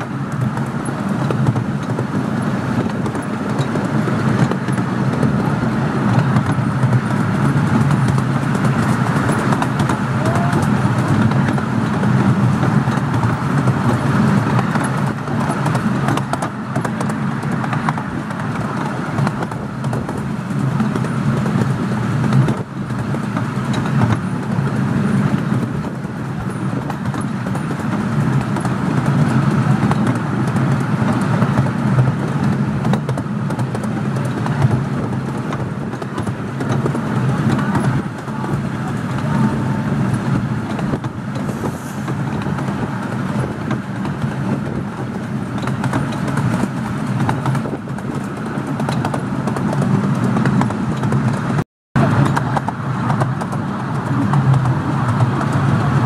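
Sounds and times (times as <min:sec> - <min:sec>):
miniature steam train rumble and clatter: 0:00.0 - 0:56.0.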